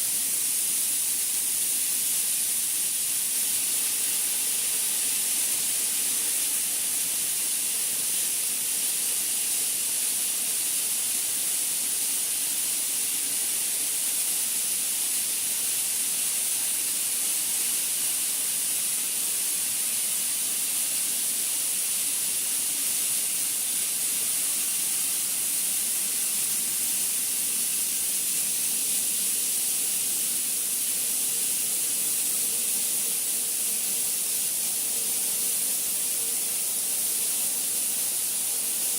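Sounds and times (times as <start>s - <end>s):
high-pitched steady hiss: 0.0s - 38.9s.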